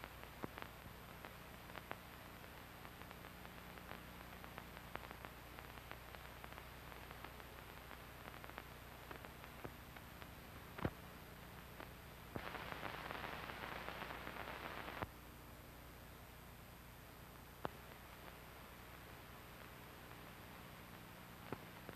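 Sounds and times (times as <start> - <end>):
crackles and pops: 0.0 - 21.9
film soundtrack hiss: 0.0 - 21.9.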